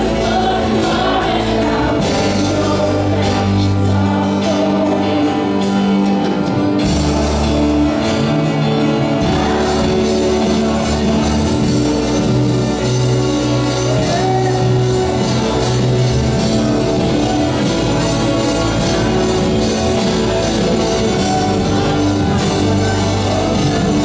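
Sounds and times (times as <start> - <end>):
person singing: 0.0 - 8.0, 8.6 - 24.0
drums: 0.0 - 24.0
guitar: 0.0 - 24.0
live band playing: 0.0 - 24.0.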